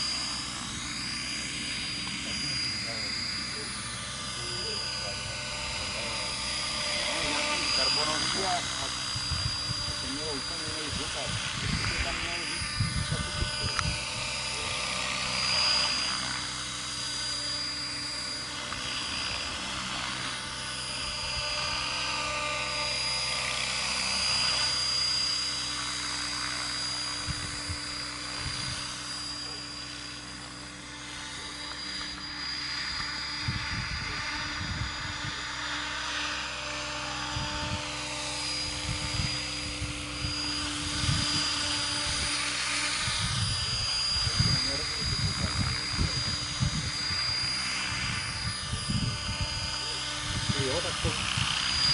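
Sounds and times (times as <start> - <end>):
rc helicopter motor whine: 0.0 - 51.9
rotor whoosh: 0.0 - 51.9.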